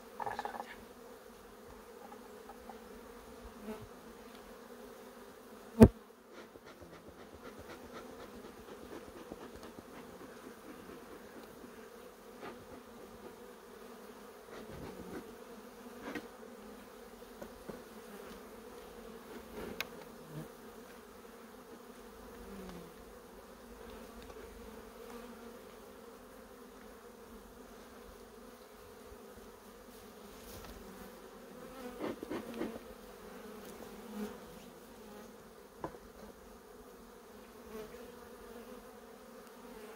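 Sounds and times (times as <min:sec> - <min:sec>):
honeybees buzzing: 0:00.0 - 0:39.9.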